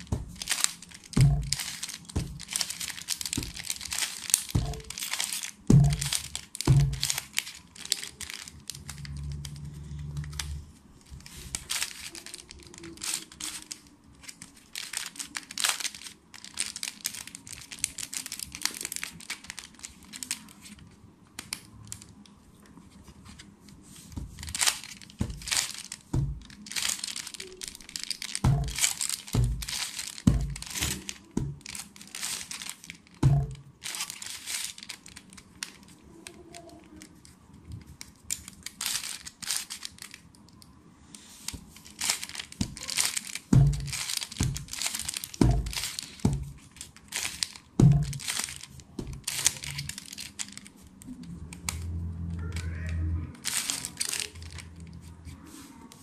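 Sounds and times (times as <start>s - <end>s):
puzzle cube layer turns clicking: 0.0s - 22.3s, 23.7s - 55.1s.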